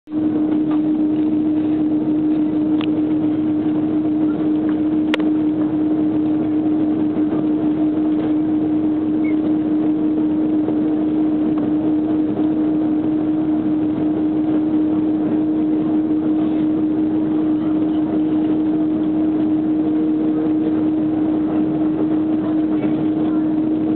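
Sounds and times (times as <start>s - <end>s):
jet engines idling: 0.1s - 23.9s.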